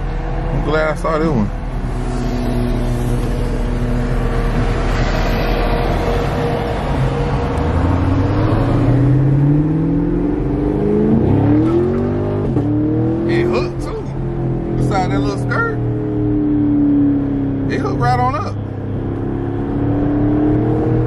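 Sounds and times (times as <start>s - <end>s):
car engine accelerating: 0.0s - 21.0s
road and wind noise: 0.0s - 21.0s.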